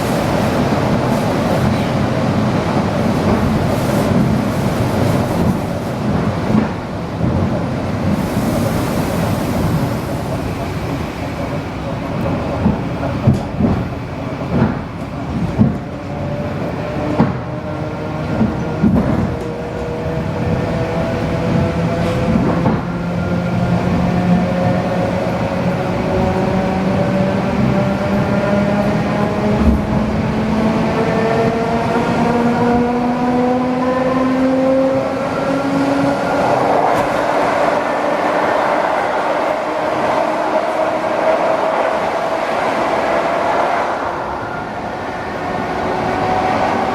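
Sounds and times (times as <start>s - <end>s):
electric train rumbling: 0.0s - 46.9s.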